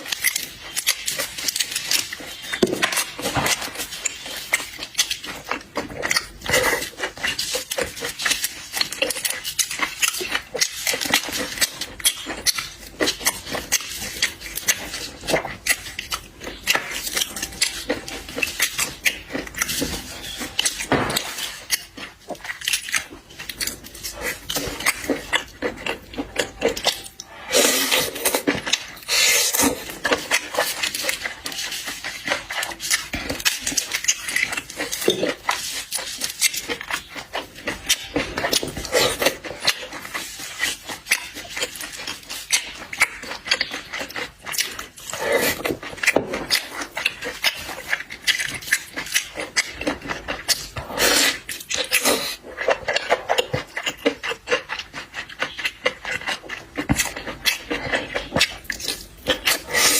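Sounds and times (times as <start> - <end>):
person chewing and slurping: 0.0 - 59.9.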